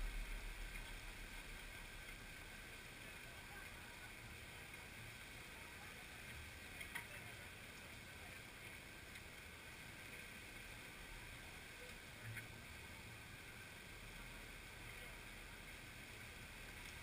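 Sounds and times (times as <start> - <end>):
faint outdoor background hiss: 0.0 - 17.0.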